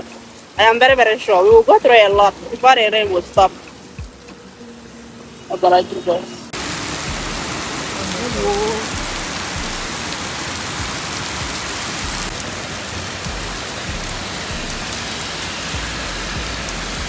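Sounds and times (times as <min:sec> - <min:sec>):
heavy rain on paved road: 0:00.0 - 0:17.0.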